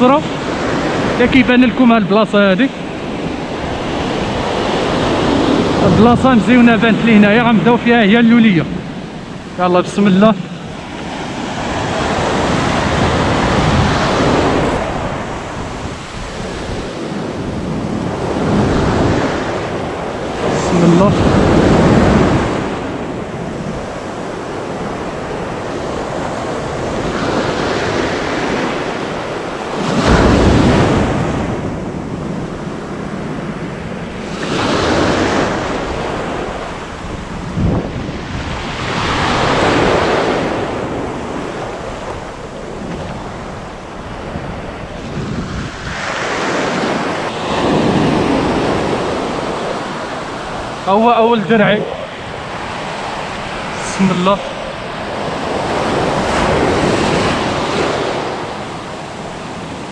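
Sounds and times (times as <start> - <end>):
sea surf breaking: 0.0 - 59.9
wind buffeting microphone: 0.0 - 59.9.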